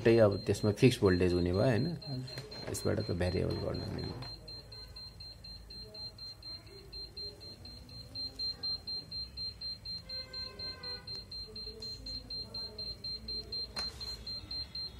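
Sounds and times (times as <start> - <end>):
rapid high-pitched beeping: 0.0 - 14.9.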